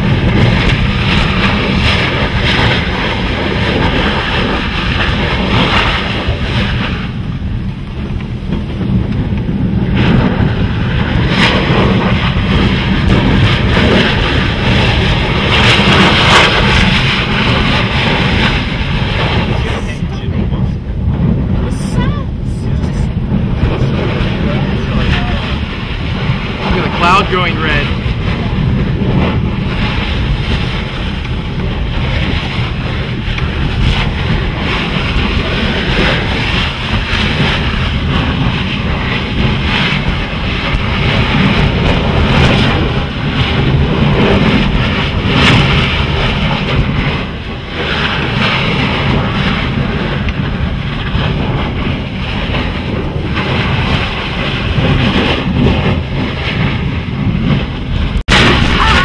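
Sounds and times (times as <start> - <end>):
ocean waves rushing: 0.0 - 59.0
wind buffeting microphone: 0.0 - 59.0.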